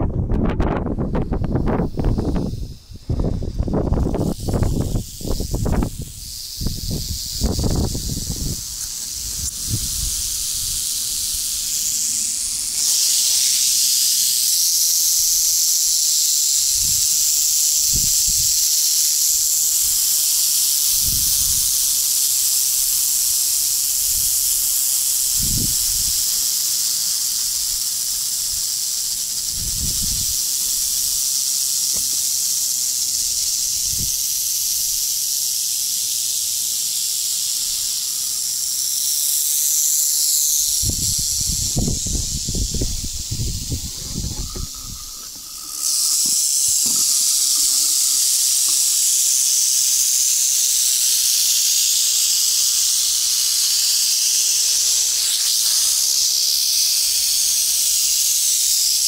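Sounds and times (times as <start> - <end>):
rattlesnakes rattling: 0.0 - 59.0.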